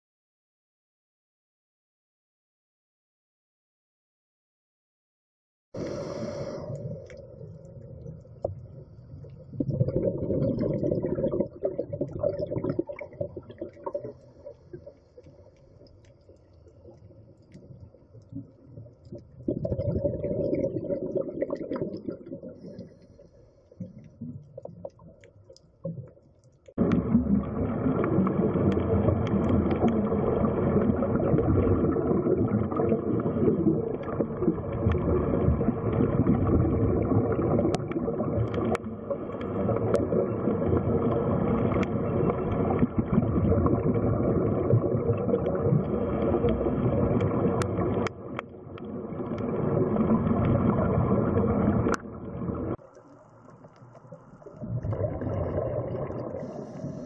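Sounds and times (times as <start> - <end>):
rushing underwater water noise: 5.8 - 57.0.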